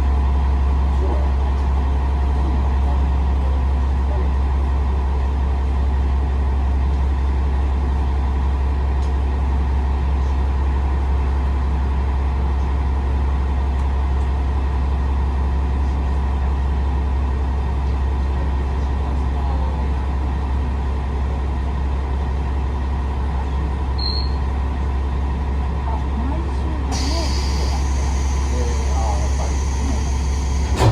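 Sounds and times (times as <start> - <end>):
diesel railcar engine rumble: 0.0 - 30.9.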